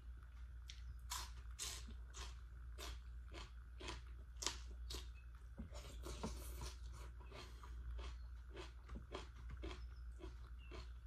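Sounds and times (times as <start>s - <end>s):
chewing leafy greens: 0.2s - 11.0s.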